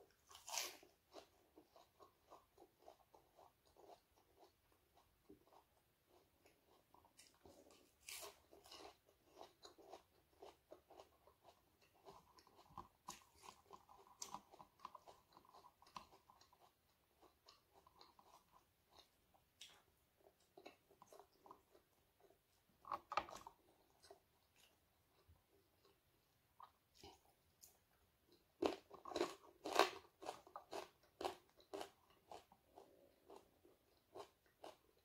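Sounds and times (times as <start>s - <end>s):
chewing crisp fried fish: 0.0s - 35.0s.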